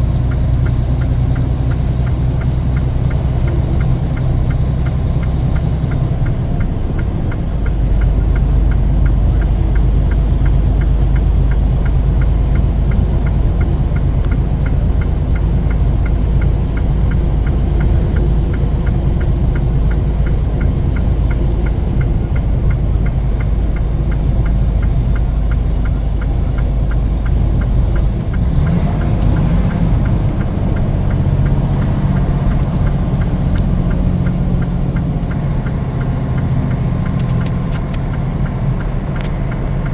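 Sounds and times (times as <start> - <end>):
fast regular light ticking: 0.0 - 39.9
vehicle engine and road rumble: 0.0 - 39.9.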